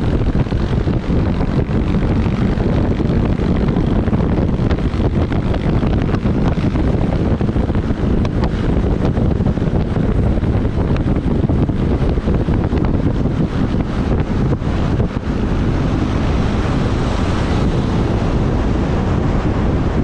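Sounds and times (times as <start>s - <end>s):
motorbike engine: 0.0s - 20.0s
road noise: 0.0s - 20.0s
wind buffeting microphone: 0.0s - 20.0s.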